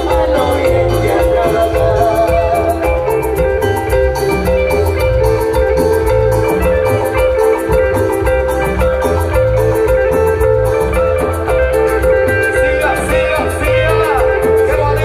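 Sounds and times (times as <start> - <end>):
live band playing latin dance music: 0.0 - 15.0.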